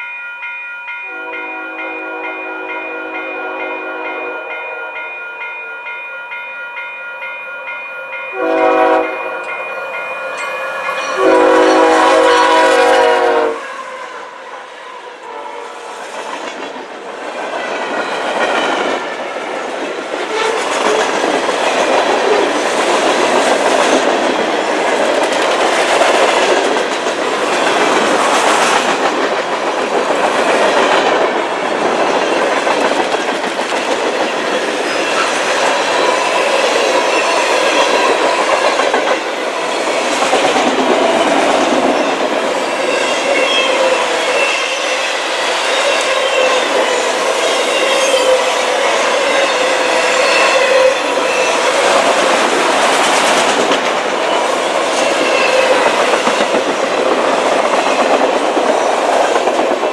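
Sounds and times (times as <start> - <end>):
freight train rumbling past: 1.1 - 5.9, 8.2 - 59.9.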